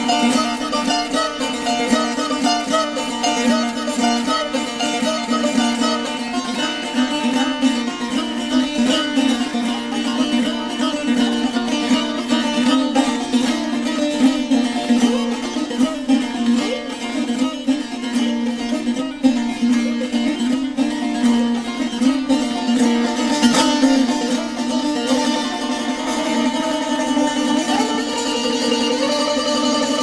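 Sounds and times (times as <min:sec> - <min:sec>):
plucked string instrumental music: 0:00.0 - 0:30.0.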